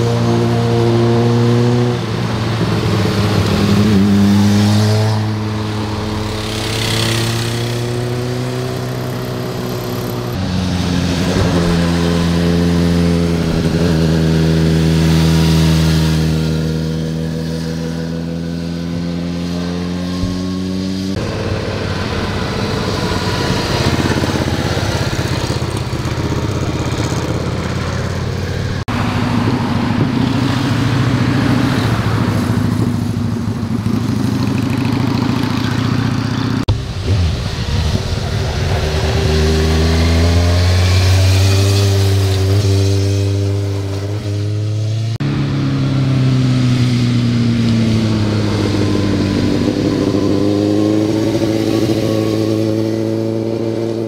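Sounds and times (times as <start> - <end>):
motorcycle engines passing: 0.0 - 54.0.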